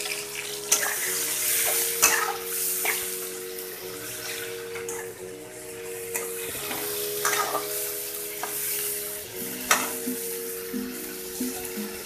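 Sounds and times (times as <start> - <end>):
onions sizzling in hot oil: 0.0 - 12.0
metal spatula scraping pan: 0.4 - 12.0.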